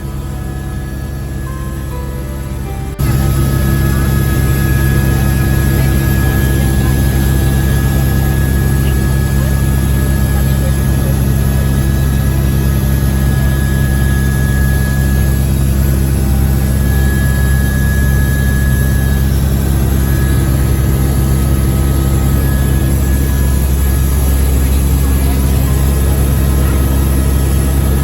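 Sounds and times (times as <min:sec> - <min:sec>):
helicopter rotor and engine drone: 0:00.0 - 0:28.0
thin steady whine: 0:00.0 - 0:28.0.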